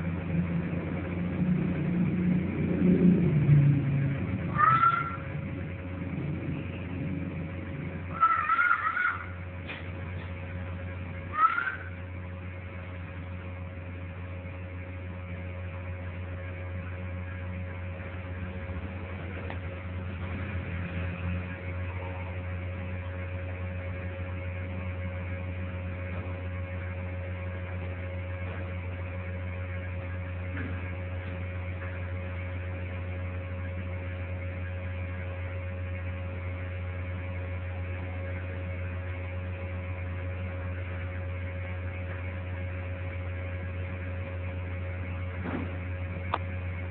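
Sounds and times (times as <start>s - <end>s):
electrical mains hum: 0.0s - 46.9s
thin steady whine: 0.0s - 46.9s.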